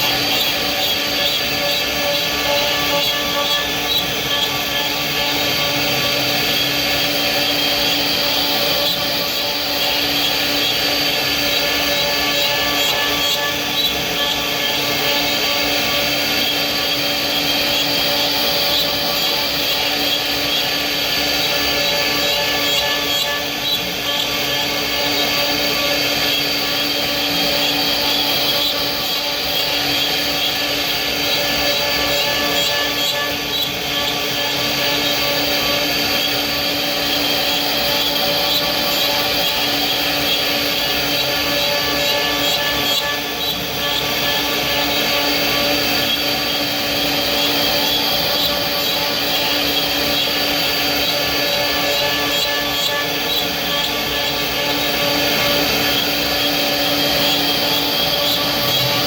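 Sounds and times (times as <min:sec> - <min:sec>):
woodworking machine whining: 0:00.0 - 0:59.0.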